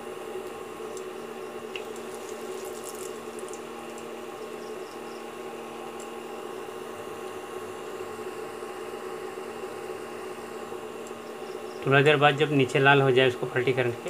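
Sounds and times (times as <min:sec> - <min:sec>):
batter sizzling in hot oil: 0:00.0 - 0:11.8
faint hum: 0:00.0 - 0:14.0.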